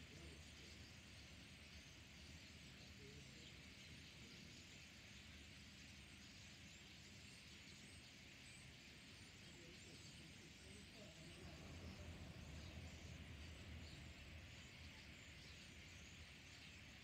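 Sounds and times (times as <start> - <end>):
starlings chattering: 0.0 - 17.0.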